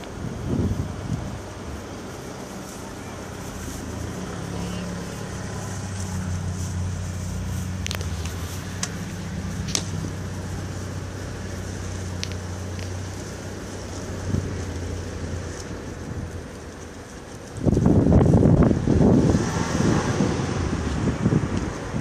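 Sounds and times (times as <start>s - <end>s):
car engine idling: 0.0s - 22.0s
street traffic: 0.0s - 22.0s.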